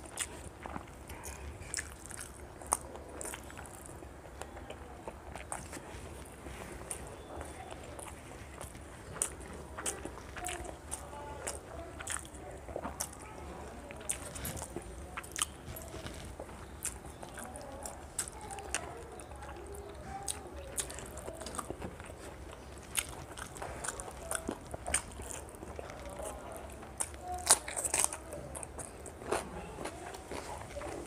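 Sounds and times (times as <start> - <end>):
faint low hum: 0.0 - 31.0
person chewing with wet clicks: 0.0 - 31.0.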